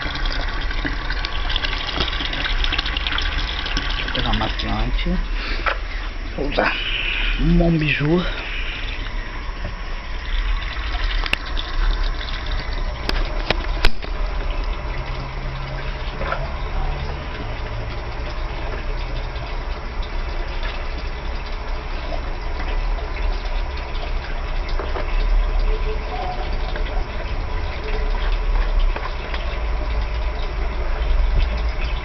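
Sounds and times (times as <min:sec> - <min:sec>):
water rushing into washing machine: 0:00.0 - 0:32.0.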